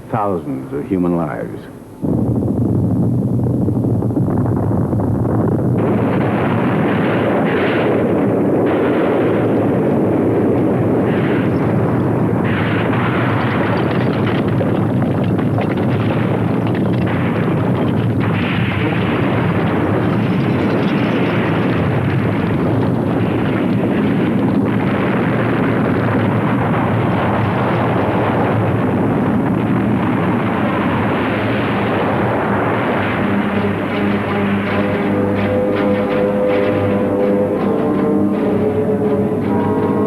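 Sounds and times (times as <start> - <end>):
volcanic eruption blasting: 0.0 - 40.0.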